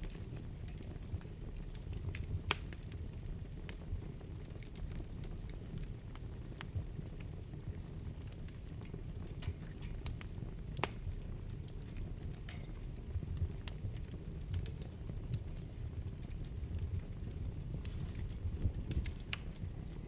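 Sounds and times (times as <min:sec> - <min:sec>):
fire crackling and popping: 0:00.0 - 0:20.0
wood fire rumbling: 0:00.0 - 0:20.0.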